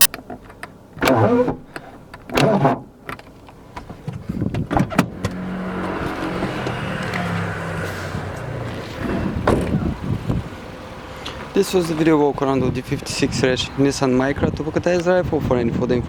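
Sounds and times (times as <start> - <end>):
car engine starting and idling: 0.0 - 12.9.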